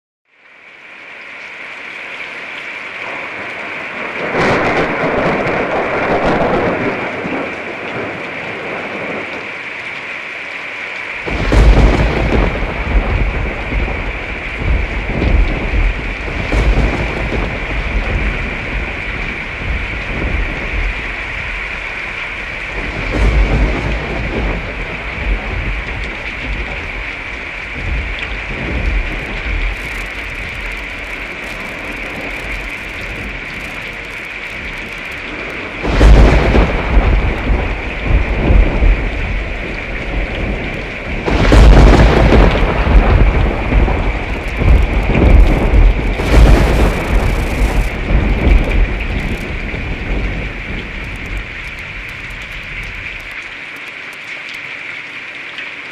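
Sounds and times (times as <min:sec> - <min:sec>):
steady rain: 0:00.3 - 0:55.9
rolling thunder: 0:03.1 - 0:09.4, 0:11.2 - 0:53.4.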